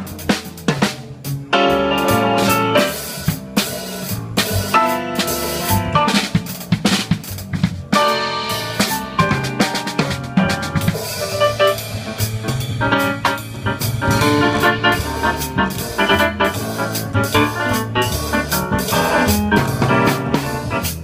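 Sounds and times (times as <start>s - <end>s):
drum kit strokes: 0.0s - 21.0s
jazz band playing: 0.0s - 21.0s.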